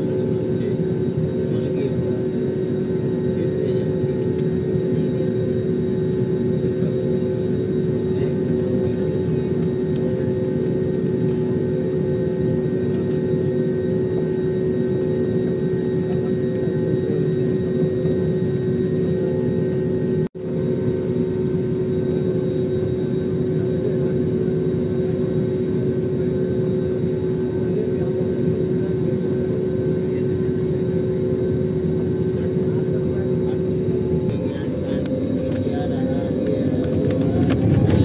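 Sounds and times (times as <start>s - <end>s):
jet engines humming in cabin: 0.0s - 38.0s.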